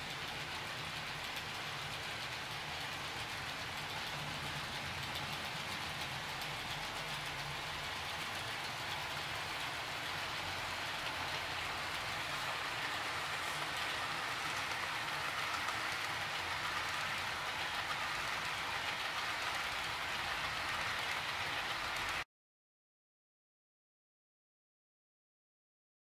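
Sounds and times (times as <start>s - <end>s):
faint motor hum: 0.0s - 22.2s
model train wheels rattling on rail: 0.0s - 22.2s.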